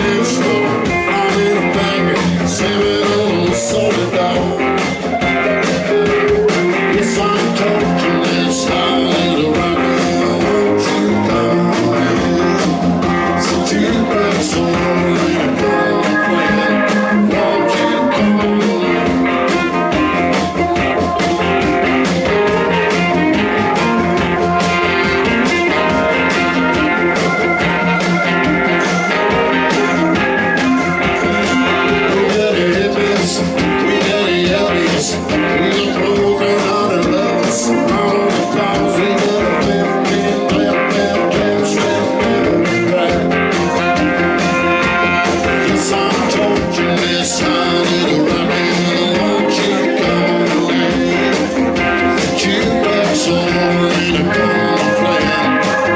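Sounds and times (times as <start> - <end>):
blues-rock band playing live: 0.0 - 55.9
electric guitar: 0.0 - 55.9
steady drum beat: 0.0 - 55.9.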